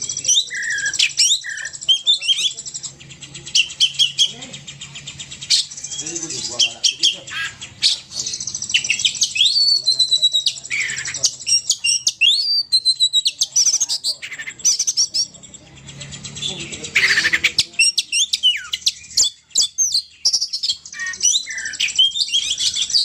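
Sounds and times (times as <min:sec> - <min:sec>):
bird chirps and whistles: 0:00.0 - 0:02.9, 0:03.5 - 0:15.4, 0:16.2 - 0:23.0.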